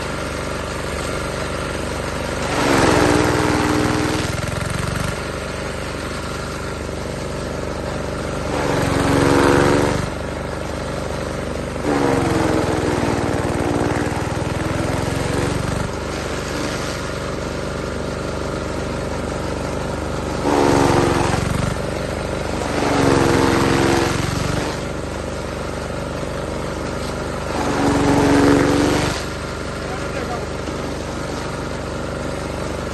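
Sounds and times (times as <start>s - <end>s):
hay cutter running: 0.0s - 32.9s.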